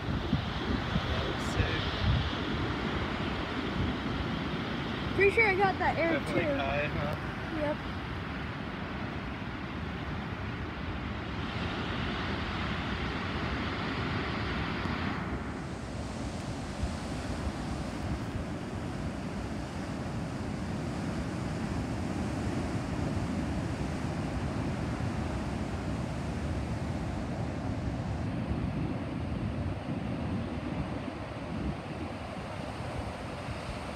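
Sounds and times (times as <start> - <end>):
wind on microphone: 0.0 - 33.9.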